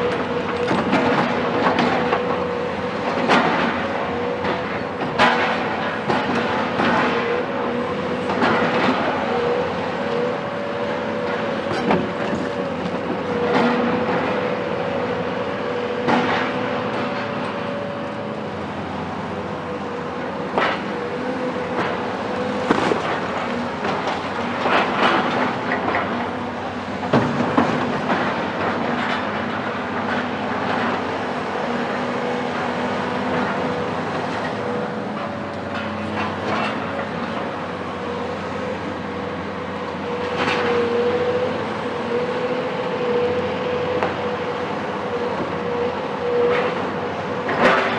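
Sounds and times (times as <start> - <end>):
excavator diesel engine under load: 0.0 - 47.9.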